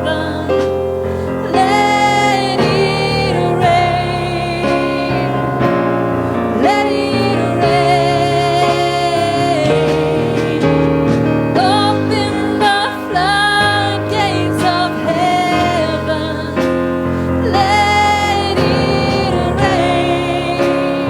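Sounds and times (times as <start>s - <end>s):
person singing with vibrato: 0.0s - 21.0s
piano chords: 0.0s - 21.0s
steady bass line: 0.0s - 21.0s.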